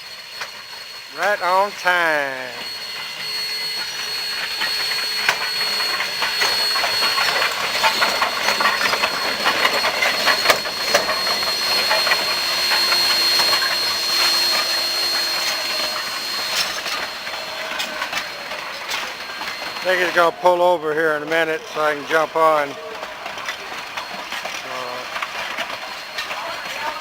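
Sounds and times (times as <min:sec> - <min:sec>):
thin high whine: 0:00.0 - 0:22.7
train wheels clicking over rails: 0:00.0 - 0:27.0.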